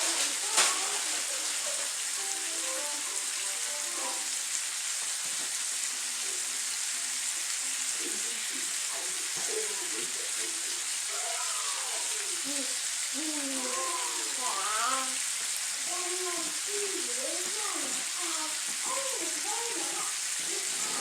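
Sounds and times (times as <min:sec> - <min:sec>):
chicken frying in a pan: 0:00.0 - 0:21.0.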